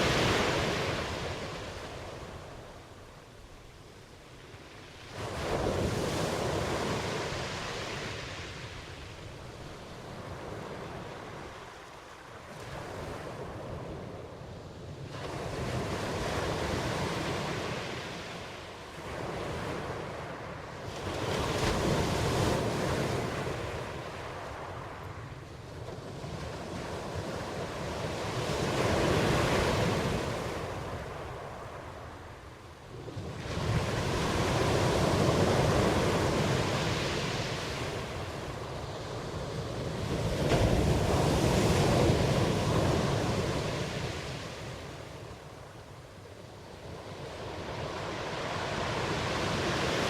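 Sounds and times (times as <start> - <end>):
ocean waves breaking: 0.0 - 3.6, 4.2 - 14.2, 15.1 - 50.0.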